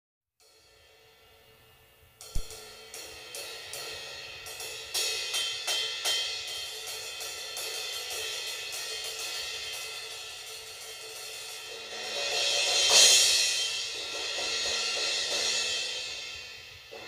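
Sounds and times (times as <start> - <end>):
crash cymbal struck with drumsticks: 2.2 - 17.0.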